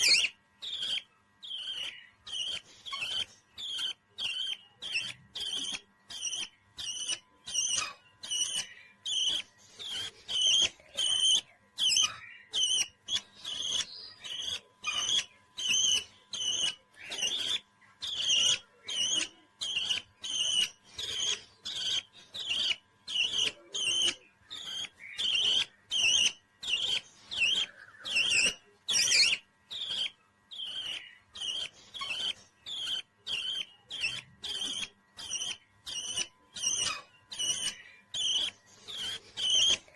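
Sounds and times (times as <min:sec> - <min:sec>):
parrot chirping: 0:00.0 - 0:39.9.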